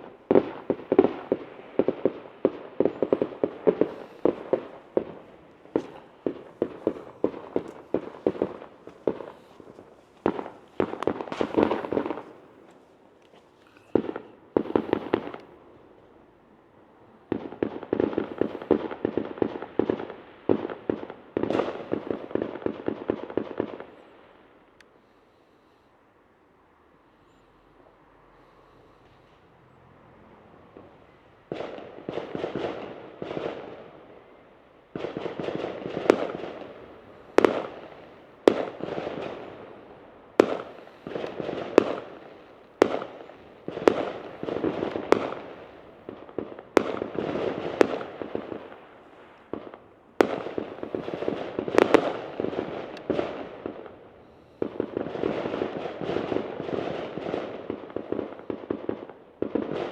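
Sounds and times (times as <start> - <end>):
fireworks bangs and crackling: 0.0 - 16.0, 17.1 - 24.8, 30.6 - 59.9.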